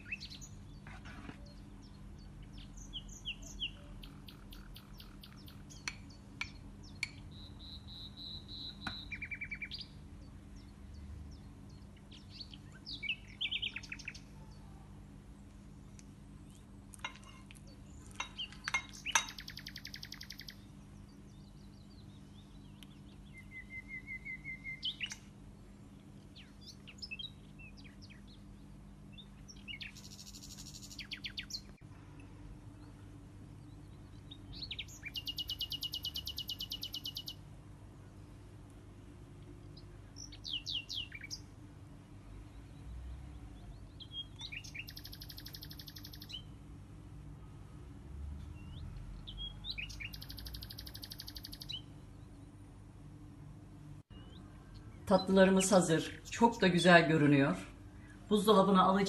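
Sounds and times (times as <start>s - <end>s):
small birds chirping and trilling: 0.0s - 38.3s, 39.5s - 46.6s, 48.4s - 59.0s
low steady hum: 0.0s - 59.0s.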